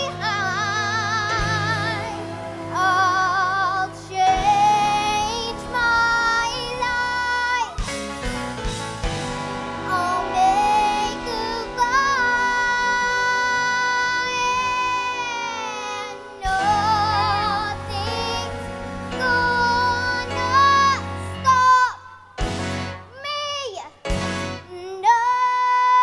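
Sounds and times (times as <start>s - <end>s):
girl singing a ballad: 0.0s - 8.0s, 9.7s - 22.4s, 23.0s - 26.0s
band accompaniment: 0.0s - 25.4s.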